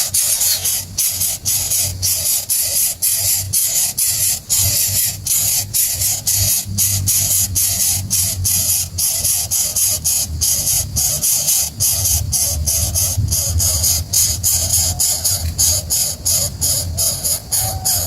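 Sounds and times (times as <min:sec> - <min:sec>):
pulsing high-pitched hiss: 0:00.0 - 0:18.0.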